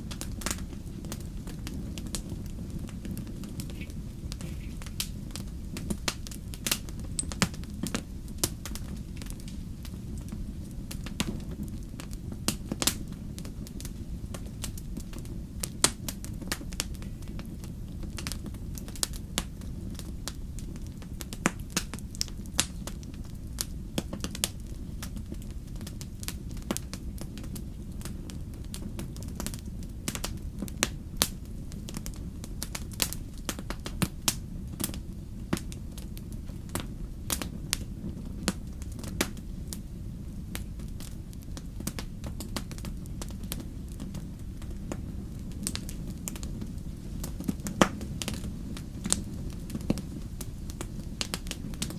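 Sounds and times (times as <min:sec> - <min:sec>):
burning wood crackling and popping: 0:00.0 - 0:51.9
campfire low rumble: 0:00.0 - 0:51.9.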